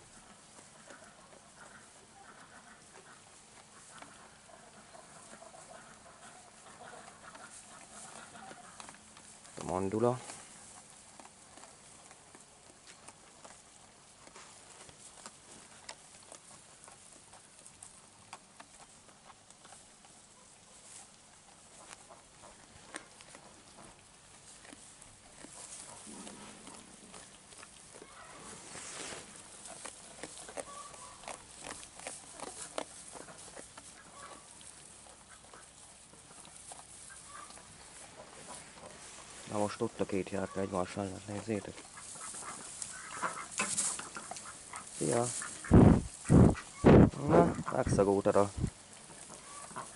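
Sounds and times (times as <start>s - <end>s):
sheep chewing dry hay: 0.0s - 49.9s
straw crackling and rustling: 0.0s - 49.9s.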